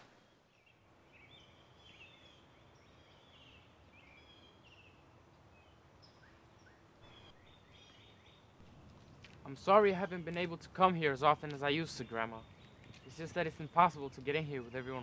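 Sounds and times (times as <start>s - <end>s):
low background hiss: 0.0s - 15.0s
small birds chirping: 0.0s - 15.0s.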